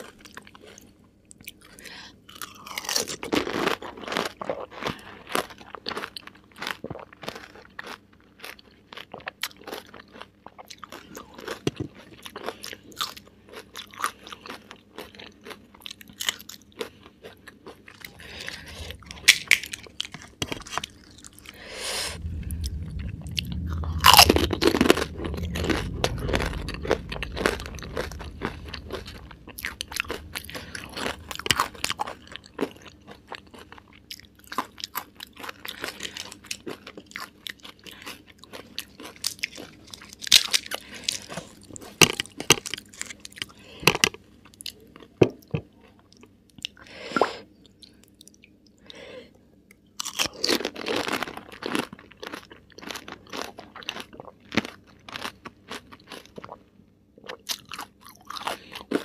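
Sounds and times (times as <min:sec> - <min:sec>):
crunching and chewing: 0:00.0 - 0:46.9, 0:49.6 - 0:59.0.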